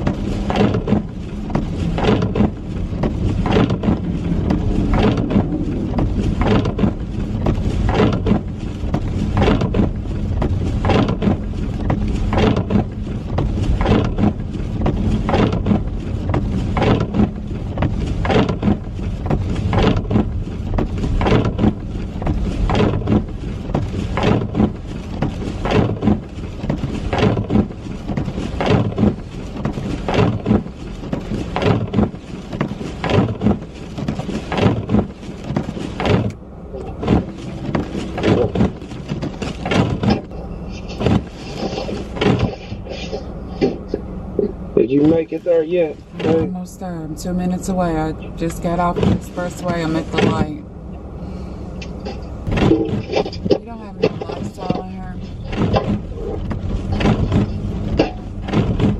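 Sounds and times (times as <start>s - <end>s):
car tyre and engine rumble: 0.0s - 58.9s.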